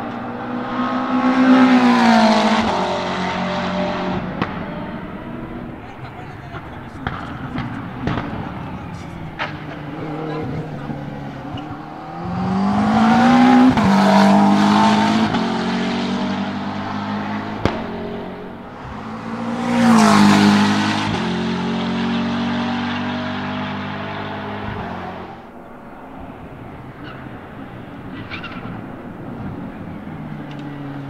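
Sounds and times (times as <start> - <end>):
race car accelerating hard: 0.0 - 25.6.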